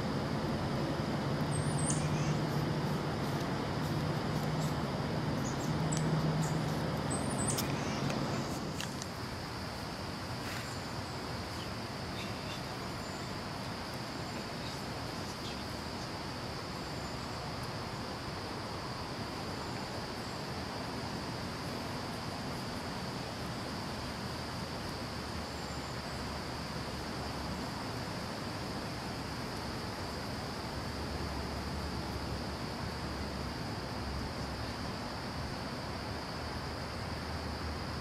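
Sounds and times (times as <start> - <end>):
insects trilling: 0.0 - 38.0
outdoor background noise: 0.0 - 38.0.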